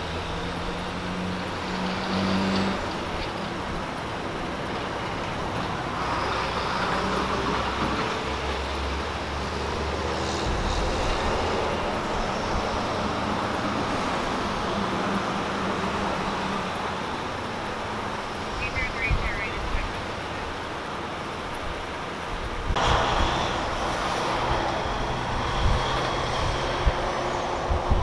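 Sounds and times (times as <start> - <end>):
heavy traffic rumble: 0.0 - 28.0
street traffic: 0.0 - 28.0.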